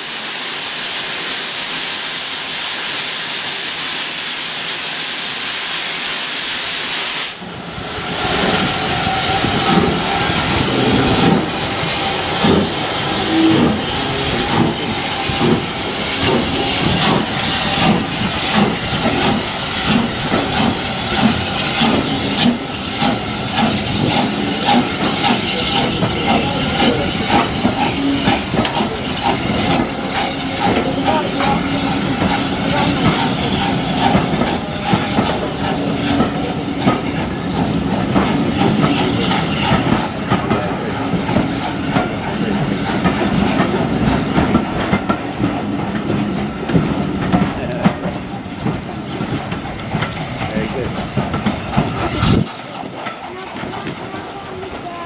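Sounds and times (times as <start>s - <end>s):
steam locomotive hissing: 0.0s - 55.0s
train coaches clanking: 7.4s - 55.0s.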